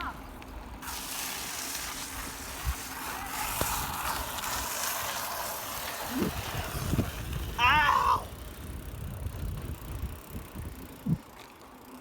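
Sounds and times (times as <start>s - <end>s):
bike tyres hissing over dirt: 0.0s - 12.0s.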